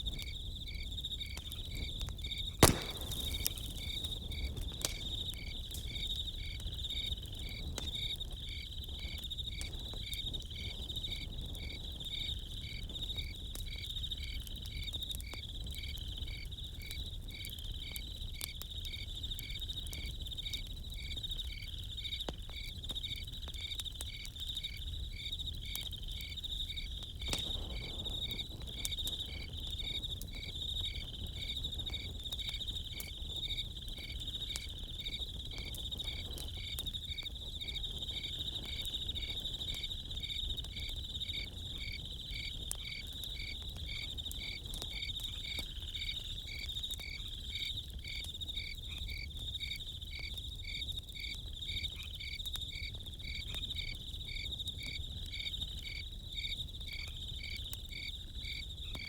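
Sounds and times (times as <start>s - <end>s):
campfire crackles: 0.0s - 59.0s
crickets chirping: 0.0s - 59.0s.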